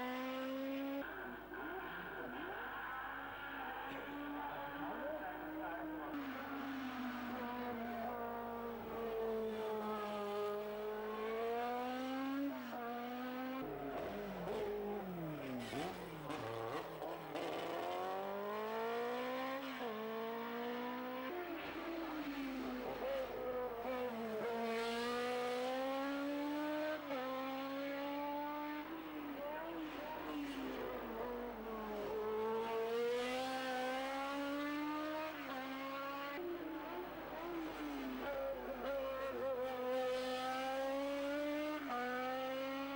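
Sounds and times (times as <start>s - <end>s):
racing car engine revving: 0.0s - 1.1s, 2.2s - 42.9s.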